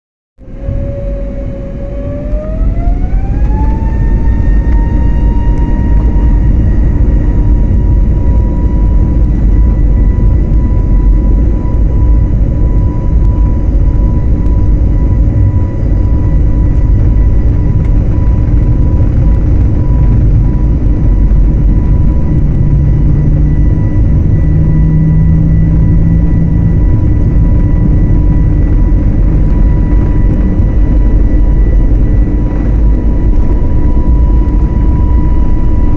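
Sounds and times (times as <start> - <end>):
jet engines spooling up: 0.4 - 35.9.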